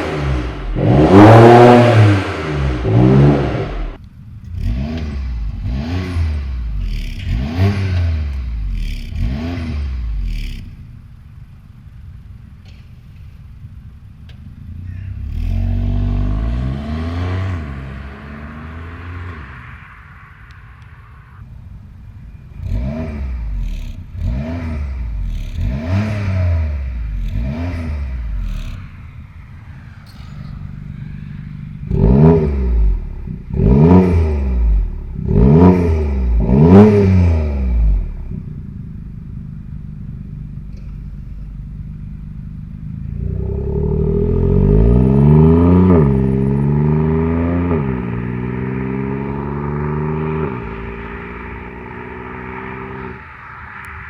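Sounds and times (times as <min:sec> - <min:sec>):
car engine revving: 0:00.0 - 0:11.2, 0:13.9 - 0:54.0.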